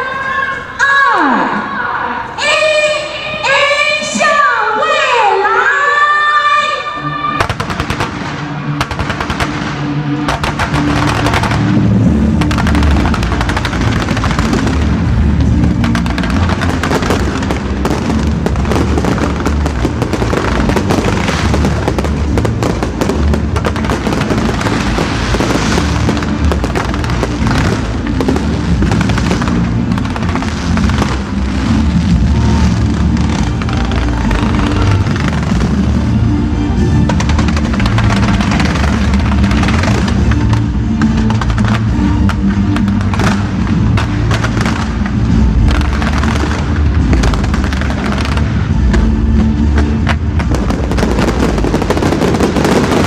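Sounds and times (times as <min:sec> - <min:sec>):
fireworks popping and crackling: 0:07.4 - 0:53.0
loud music with bass line: 0:10.4 - 0:53.0.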